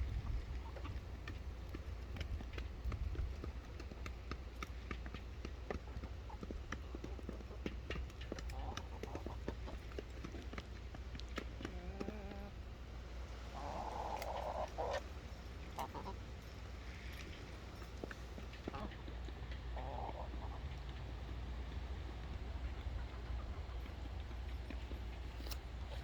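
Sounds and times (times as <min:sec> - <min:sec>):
chickens pecking at feed: 0:00.0 - 0:26.0
chickens clucking: 0:00.1 - 0:26.0.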